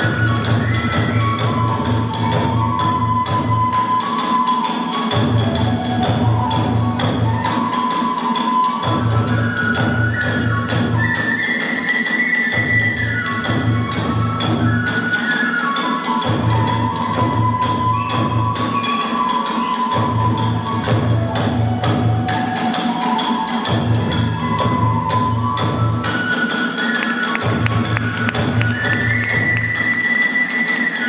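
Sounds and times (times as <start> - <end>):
bamboo flute melody: 0.0 - 31.0
steady drumming: 0.0 - 31.0.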